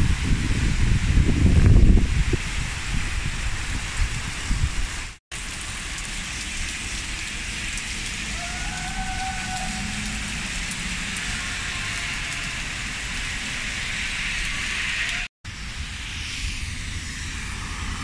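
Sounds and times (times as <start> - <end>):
rain hissing on paving: 0.0 - 15.3.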